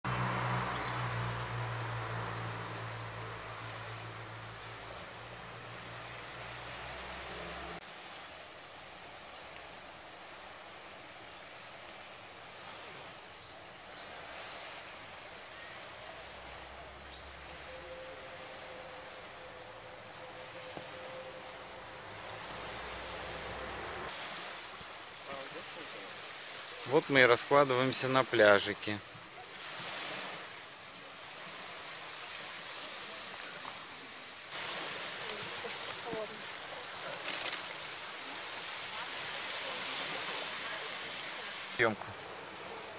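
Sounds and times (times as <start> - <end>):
distant gentle surf: 0.1 - 42.9
sea waves washing onto sand: 0.1 - 42.9.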